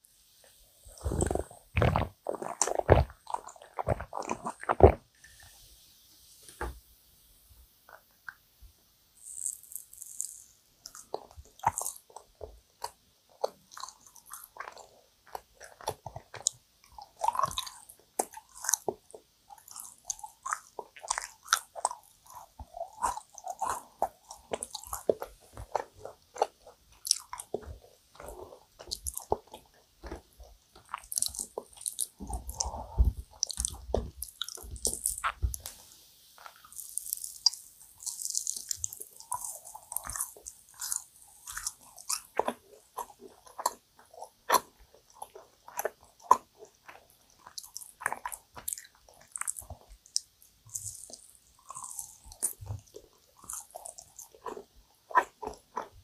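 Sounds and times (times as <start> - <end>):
wet chewing smacks: 1.0 - 5.0, 9.3 - 35.8, 36.4 - 56.0.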